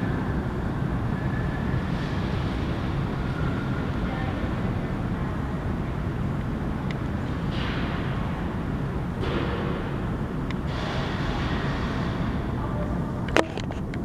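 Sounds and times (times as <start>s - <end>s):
freight train cars rolling: 0.0s - 14.0s.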